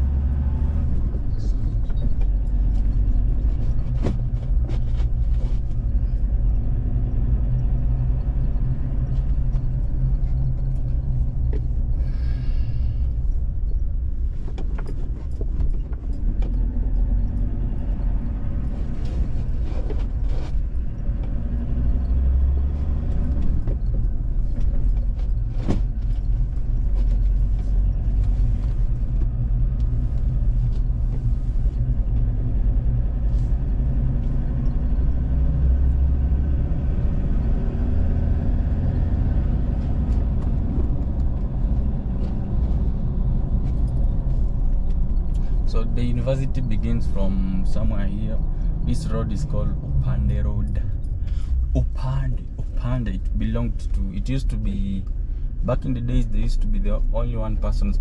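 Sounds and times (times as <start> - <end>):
vehicle rumbling on road: 0.0 - 58.0.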